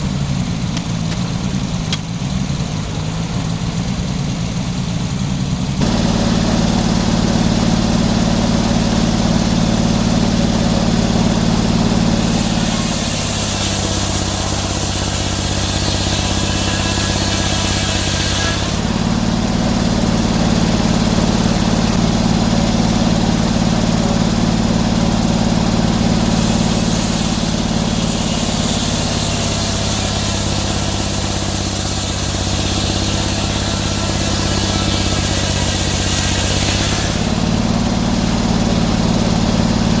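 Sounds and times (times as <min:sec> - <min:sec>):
sawmill engine running: 0:00.0 - 0:40.0
saw hissing through wood: 0:05.8 - 0:40.0.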